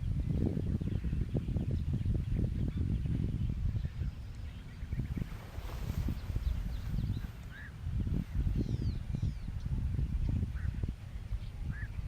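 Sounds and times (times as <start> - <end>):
faint bird chirps: 0.0 - 12.0
wind buffeting microphone: 0.0 - 12.0.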